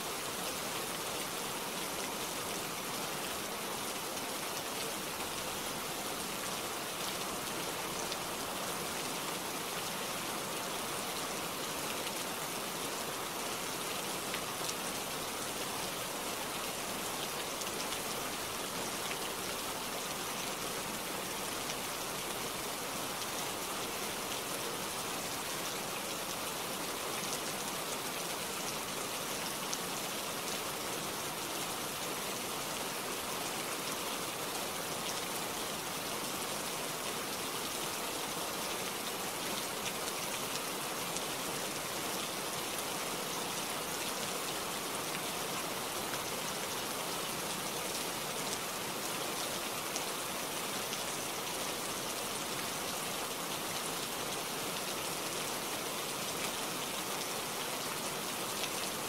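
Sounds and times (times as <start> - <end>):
rain falling through tree leaves: 0.0 - 59.0.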